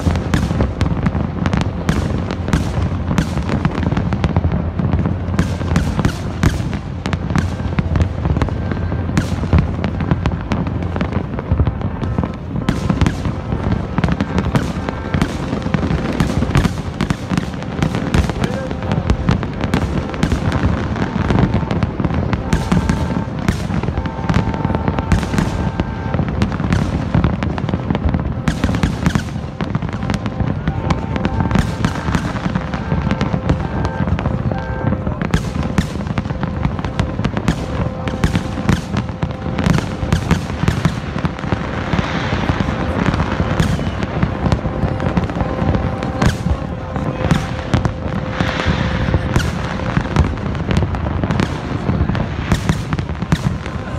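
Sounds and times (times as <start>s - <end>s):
fireworks bursting and crackling: 0.0s - 53.9s.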